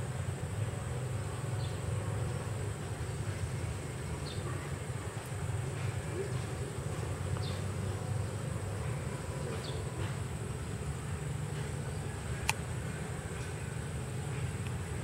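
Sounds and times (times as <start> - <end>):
low buzzing hum: 0.0 - 15.0.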